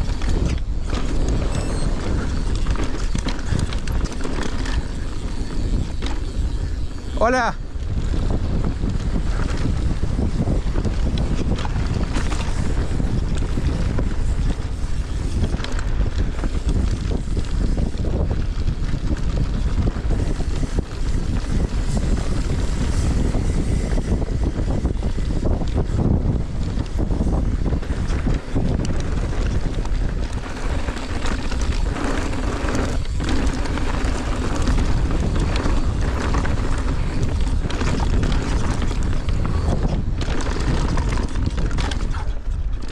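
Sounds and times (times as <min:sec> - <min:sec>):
bike rattling and knocking: 0:00.0 - 0:42.9
wind buffeting microphone: 0:00.0 - 0:42.9.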